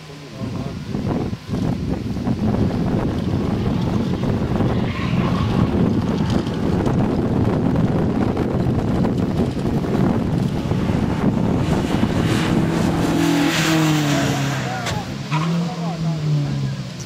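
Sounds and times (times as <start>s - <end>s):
car engine running: 0.0s - 17.0s
wind buffeting microphone: 0.4s - 15.2s.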